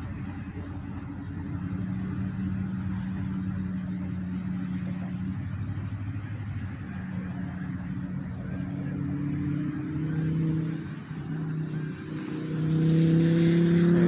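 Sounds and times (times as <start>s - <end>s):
low engine hum: 0.0s - 14.0s
road traffic: 0.0s - 14.0s.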